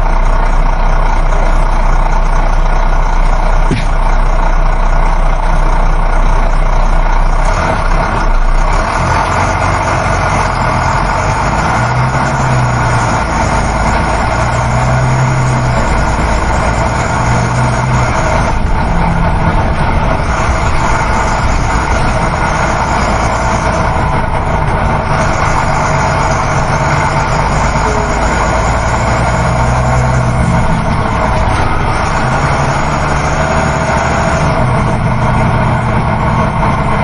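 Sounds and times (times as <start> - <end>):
bus engine drone: 0.0 - 37.0
road and wind noise: 0.0 - 37.0.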